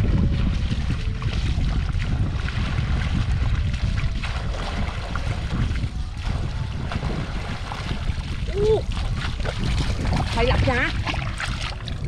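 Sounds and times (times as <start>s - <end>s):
wind rumbling on microphone: 0.0s - 12.0s
shallow water splashing: 0.3s - 12.0s.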